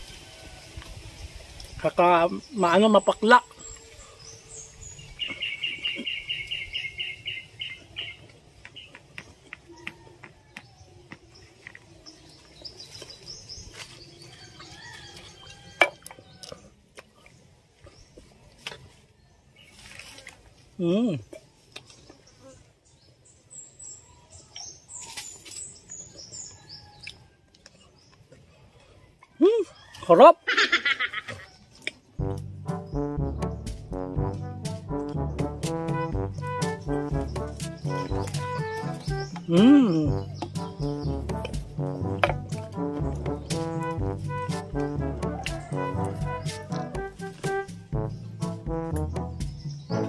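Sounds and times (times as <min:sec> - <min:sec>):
birds chirping: 0:00.0 - 0:19.9, 0:20.8 - 0:50.0.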